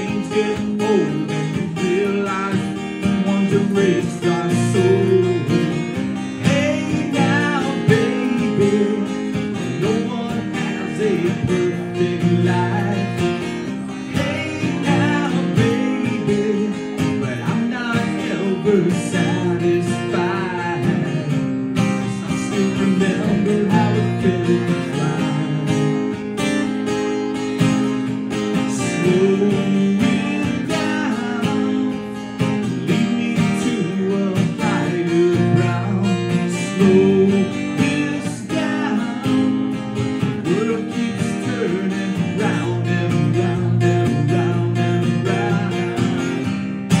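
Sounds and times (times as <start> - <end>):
wordless vocal line: 0.0 - 26.1, 28.5 - 47.0
acoustic guitar strumming: 0.0 - 47.0.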